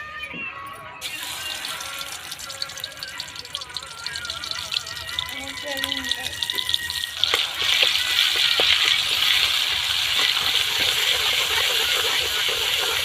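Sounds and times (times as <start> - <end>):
food sizzling in hot oil: 1.0 - 13.0.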